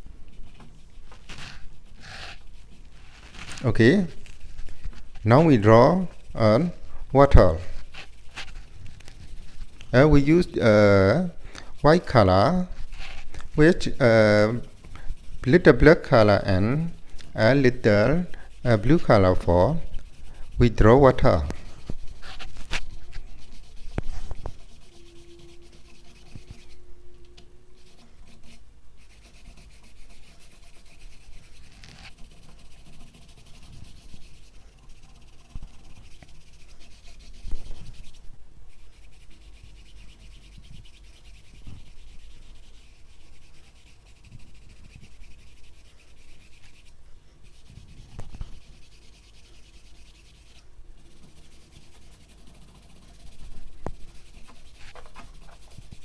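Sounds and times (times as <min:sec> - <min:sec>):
paintbrush scratchy rubbing strokes: 0:00.0 - 0:56.0.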